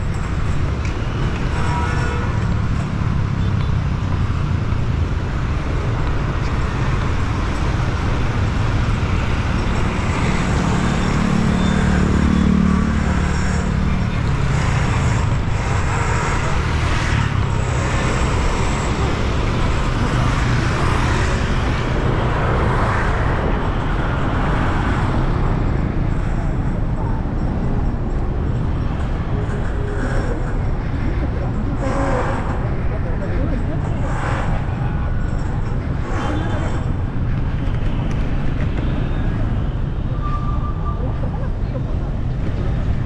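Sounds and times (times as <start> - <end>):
stream of traffic: 0.0 - 43.0.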